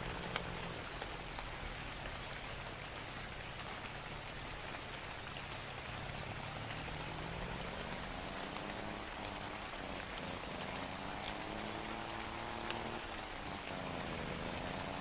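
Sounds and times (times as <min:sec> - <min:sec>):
truck engine droning: 0:00.0 - 0:02.7, 0:05.4 - 0:15.0
constant hiss: 0:00.0 - 0:15.0.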